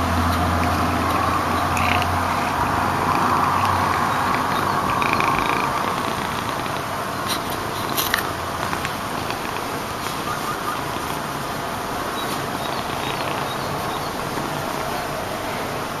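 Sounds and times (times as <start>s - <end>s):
cat rumbling breath: 0.0s - 16.0s.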